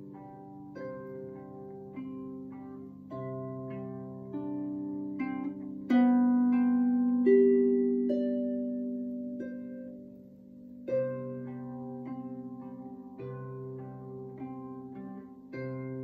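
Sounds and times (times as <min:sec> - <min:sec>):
harp notes and chords: 0:00.0 - 0:16.0.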